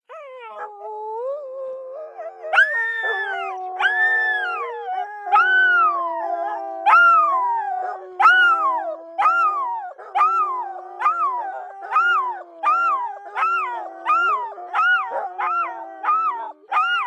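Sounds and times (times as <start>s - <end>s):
dogs howling: 0.1s - 17.0s.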